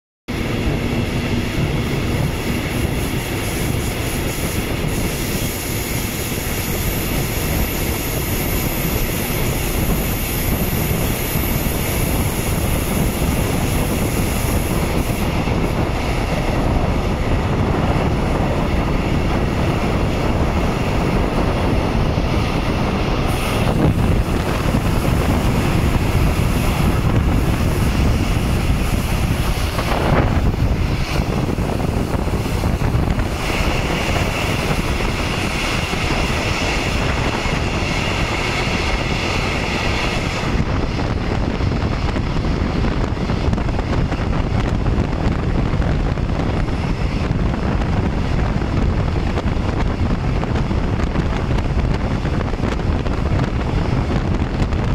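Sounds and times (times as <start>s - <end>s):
train wheels rumbling on rails: 0.3s - 54.9s.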